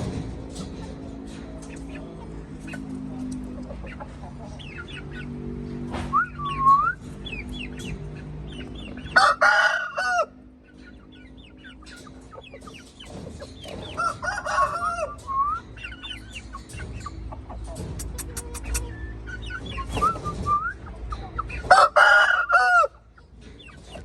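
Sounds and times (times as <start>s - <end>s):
birds chirping: 0.4s - 24.0s.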